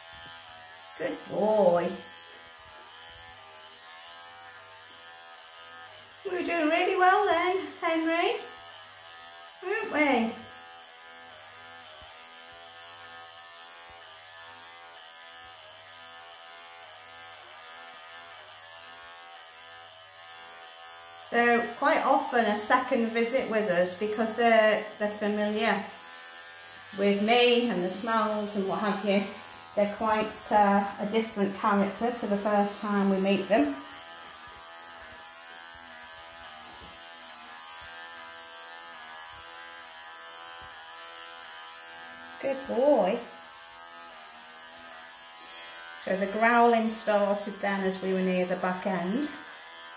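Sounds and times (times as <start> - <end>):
pet clippers buzzing: 0.0 - 49.9.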